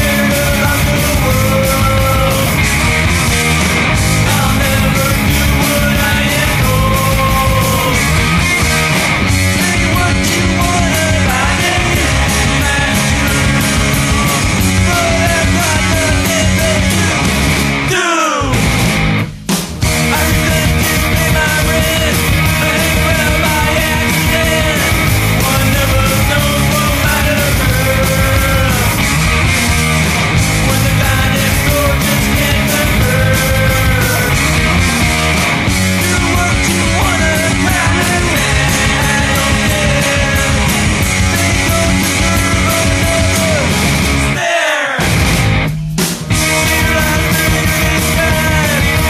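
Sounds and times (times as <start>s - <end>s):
bass guitar: 0.0s - 49.0s
distorted electric guitars: 0.0s - 49.0s
steady drumbeat: 0.0s - 49.0s.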